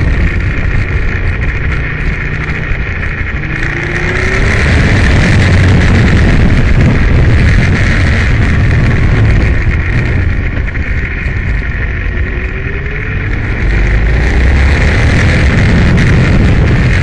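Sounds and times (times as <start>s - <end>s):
motorcycle engine at speed: 0.0s - 17.0s
wind noise on microphone: 0.0s - 17.0s.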